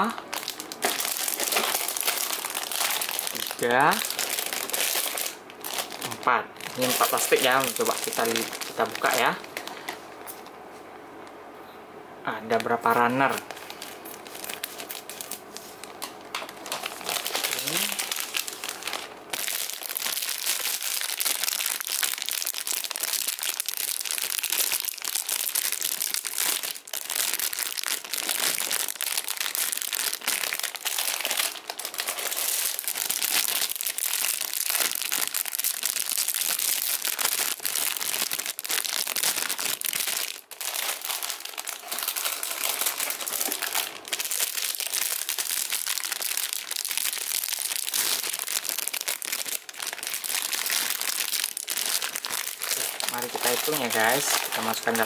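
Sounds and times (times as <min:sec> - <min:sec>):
plastic bags crinkling: 0:00.0 - 0:10.6, 0:12.5 - 0:55.0.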